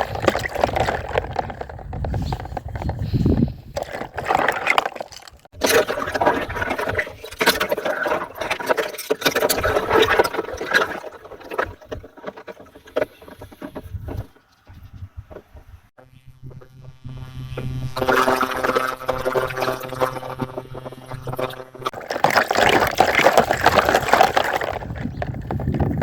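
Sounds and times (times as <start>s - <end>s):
water sloshing and splashing: 0.0s - 2.9s, 3.7s - 14.4s, 18.1s - 26.0s
plastic rings scraping and knocking: 0.0s - 15.8s, 18.1s - 26.0s.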